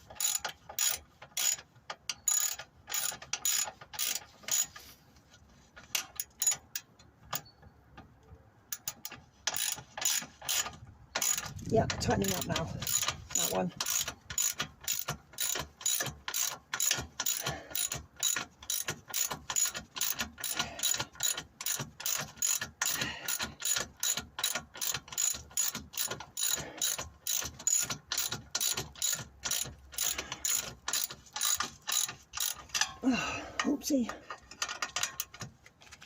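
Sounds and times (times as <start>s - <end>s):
hand ratchet clicking: 0.0s - 4.8s, 5.8s - 7.5s, 8.7s - 33.0s, 34.3s - 36.0s.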